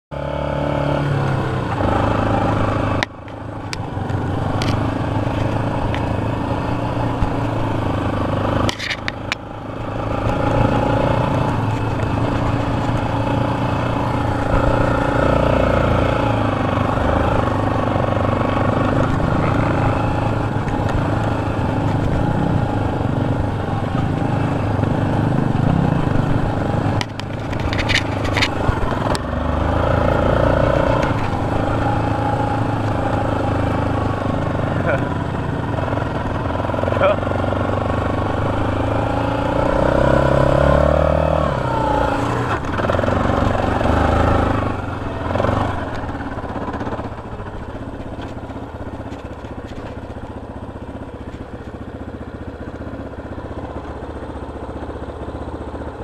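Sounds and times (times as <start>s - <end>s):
quad engine revving: 0.1s - 54.5s.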